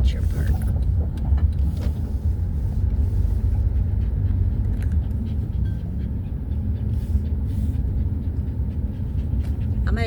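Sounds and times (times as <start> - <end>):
car road and engine rumble: 0.0 - 10.0
dog panting: 1.9 - 10.0.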